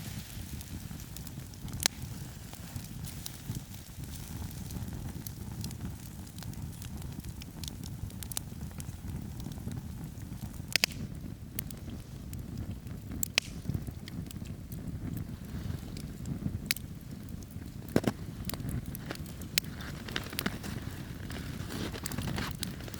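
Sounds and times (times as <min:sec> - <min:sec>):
campfire flames rumbling: 0:00.0 - 0:22.9
firewood crackling and popping: 0:00.0 - 0:22.9.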